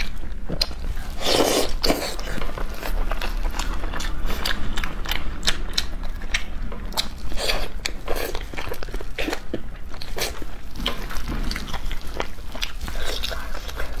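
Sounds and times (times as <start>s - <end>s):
chewing and crunching: 0.0s - 14.0s.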